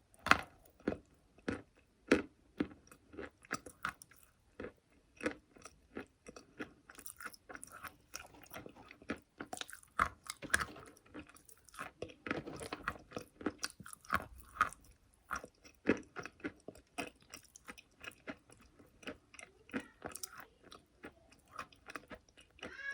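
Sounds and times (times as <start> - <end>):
person chewing chalk: 0.2 - 22.7.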